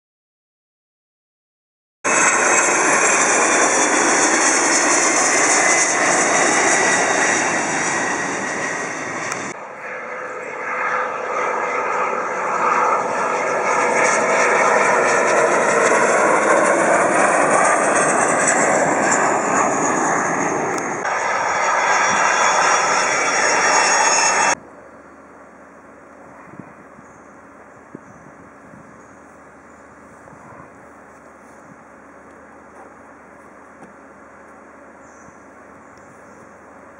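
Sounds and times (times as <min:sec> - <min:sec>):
faint wind: 0:02.1 - 0:36.9
jet aircraft roar and whine: 0:02.1 - 0:36.9.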